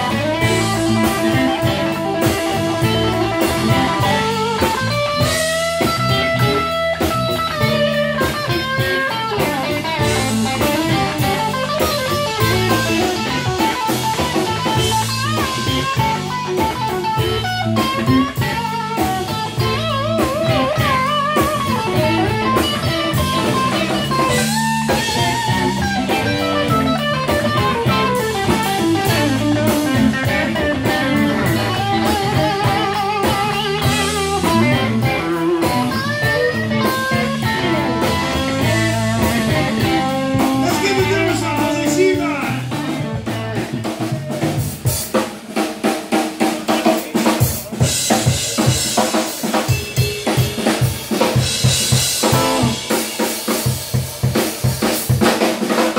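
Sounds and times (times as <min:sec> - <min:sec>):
lead guitar bent notes: 0:00.0 - 0:45.6, 0:46.4 - 0:55.9
electric blues guitars and drums: 0:00.0 - 0:55.9.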